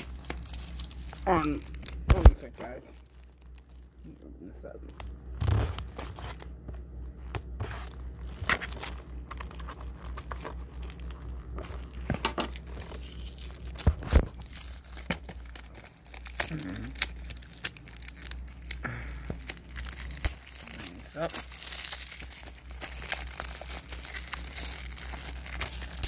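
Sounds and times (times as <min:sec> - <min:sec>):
low hum: 0:00.0 - 0:26.0
plastic wrap crackling and tearing: 0:00.0 - 0:26.0.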